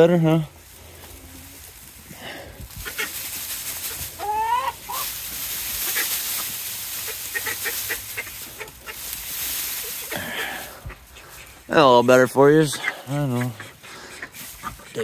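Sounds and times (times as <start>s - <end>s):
poultry calling: 0.8s - 15.0s.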